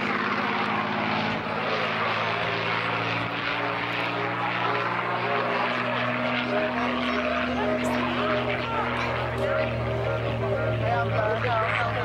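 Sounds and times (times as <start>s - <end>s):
propeller plane engine overhead: 0.0s - 12.0s.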